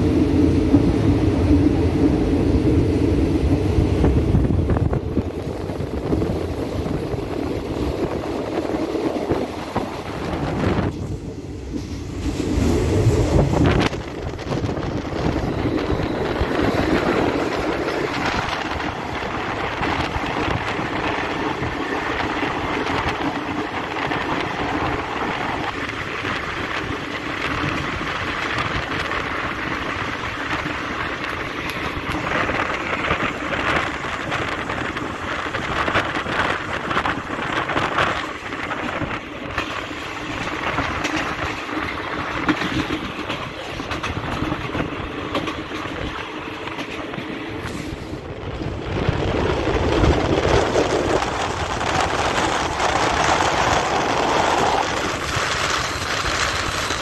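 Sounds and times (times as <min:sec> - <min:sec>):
diesel locomotives passing: 0:00.0 - 0:57.0
freight train rushing past: 0:00.0 - 0:57.0
train wheel and rail noise: 0:00.0 - 0:57.0.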